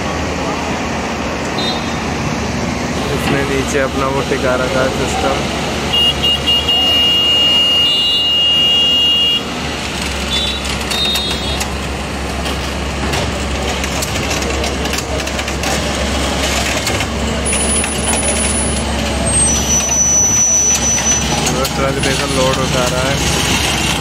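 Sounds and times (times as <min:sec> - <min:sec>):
crane engine running: 0:00.0 - 0:24.0.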